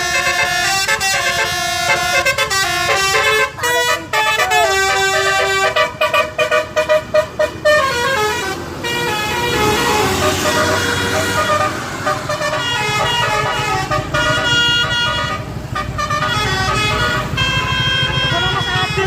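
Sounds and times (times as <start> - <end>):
musical air horn playing a tune: 0.0 - 19.0.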